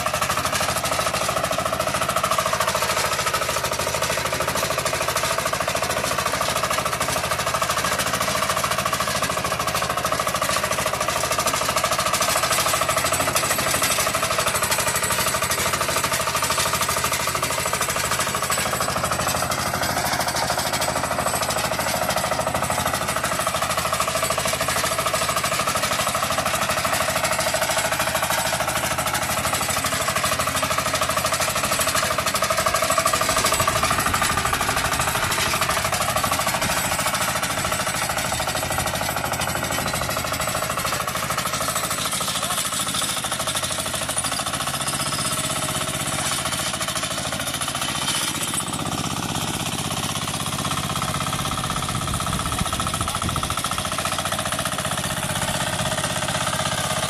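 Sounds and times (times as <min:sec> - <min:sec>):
two-wheel tractor engine chugging: 0:00.0 - 0:57.0.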